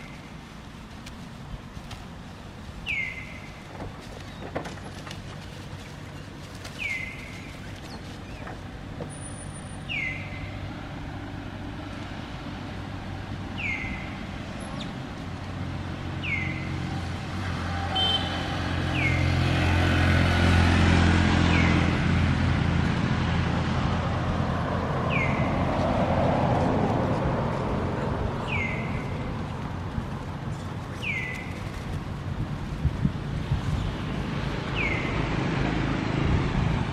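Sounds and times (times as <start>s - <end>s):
vehicle engine passing: 5.0s - 36.9s.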